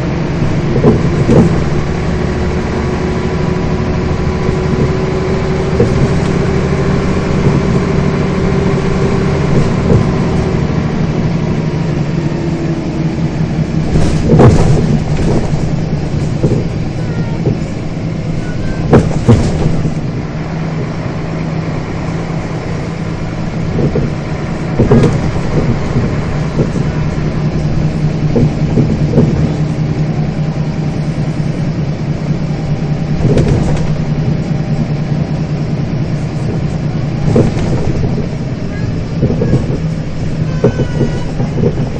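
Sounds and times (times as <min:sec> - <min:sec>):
bus engine drone: 0:00.0 - 0:41.9
sharp knocks and rattles: 0:00.0 - 0:41.9.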